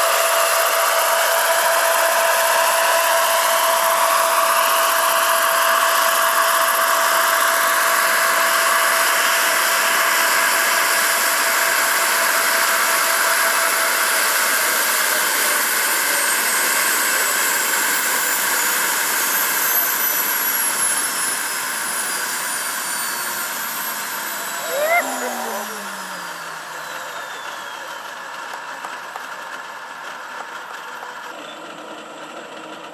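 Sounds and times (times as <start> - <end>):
model helicopter turbine whine: 0.0 - 32.9.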